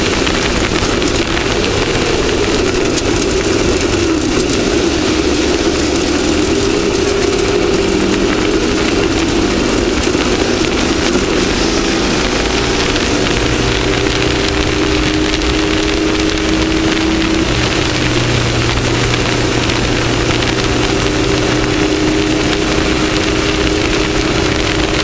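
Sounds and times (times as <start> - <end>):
race vehicle engine running: 0.0 - 25.0
rushing noise: 0.0 - 25.0.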